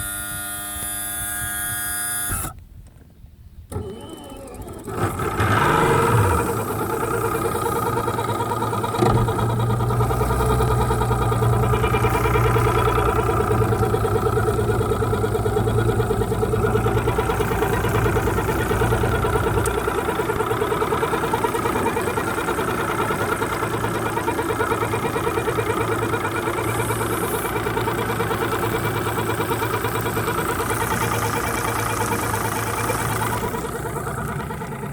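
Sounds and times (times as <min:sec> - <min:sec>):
outboard motor running: 0:00.0 - 0:02.6, 0:03.7 - 0:34.9.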